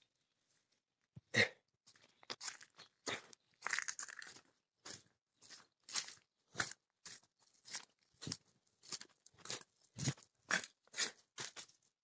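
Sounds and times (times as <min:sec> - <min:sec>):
footsteps crunching on gravel: 0:01.9 - 0:11.8.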